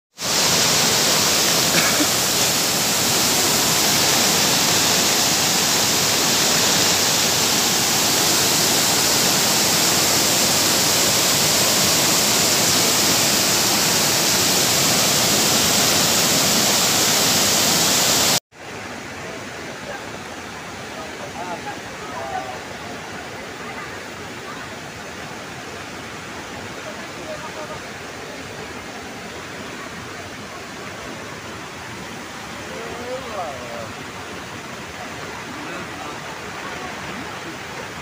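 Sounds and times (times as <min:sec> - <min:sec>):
floodwater rushing down a channel: 0:00.1 - 0:38.0.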